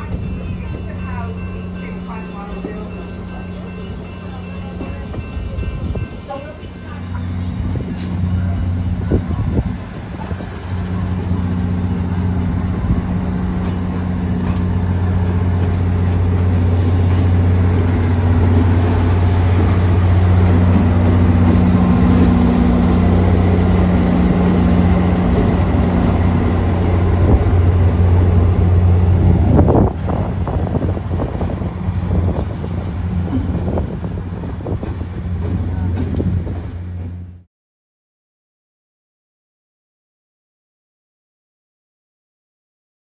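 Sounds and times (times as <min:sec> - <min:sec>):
diesel locomotive engine drone: 0:00.0 - 0:37.5
rolling train cars rumble: 0:00.0 - 0:37.5.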